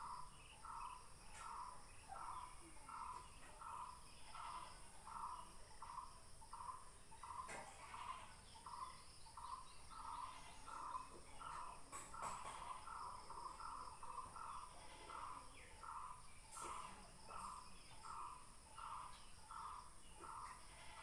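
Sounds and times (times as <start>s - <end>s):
insect hiss: 0.0s - 21.0s.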